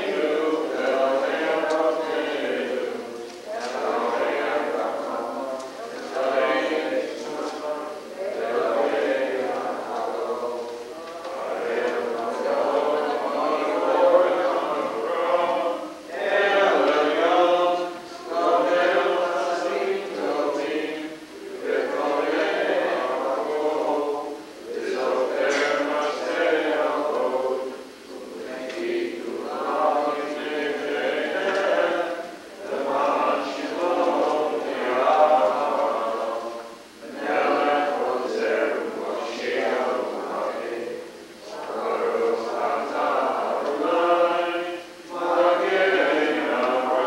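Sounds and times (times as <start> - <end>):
congregation singing a prayer: 0.0 - 47.0.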